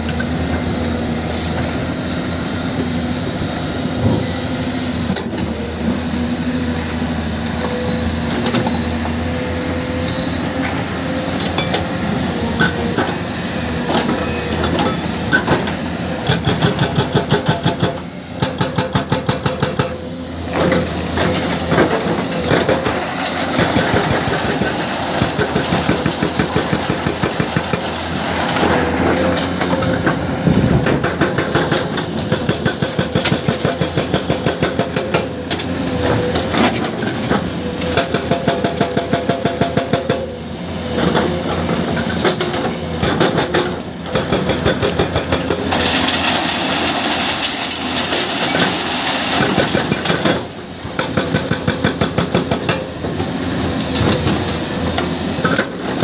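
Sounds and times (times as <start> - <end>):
excavator diesel engine running: 0.0 - 56.0
hydraulic breaker hammering rock: 9.9 - 46.6, 47.4 - 56.0.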